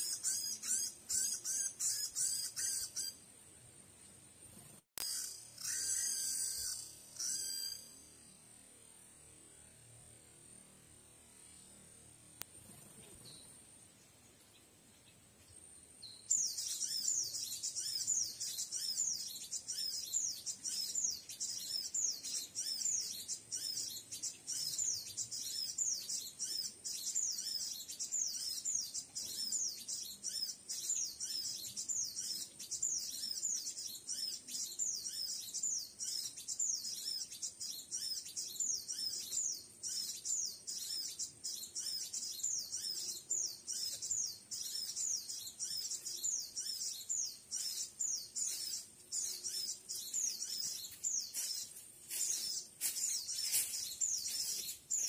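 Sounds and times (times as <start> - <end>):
high-pitched bird chirping: 0.0 - 3.2, 5.0 - 7.9, 16.0 - 55.0.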